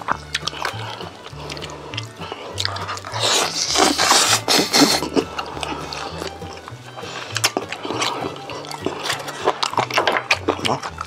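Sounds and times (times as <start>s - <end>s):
background music with bass: 0.0s - 11.0s
crunching and chewing: 0.0s - 11.0s.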